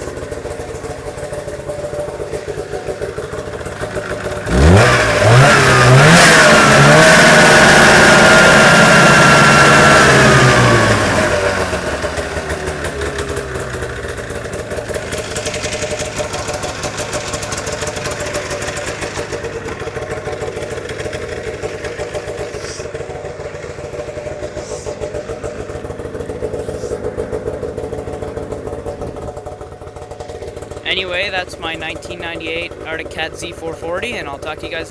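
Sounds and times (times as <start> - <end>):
two-stroke engine revving and idling: 0.0 - 34.9.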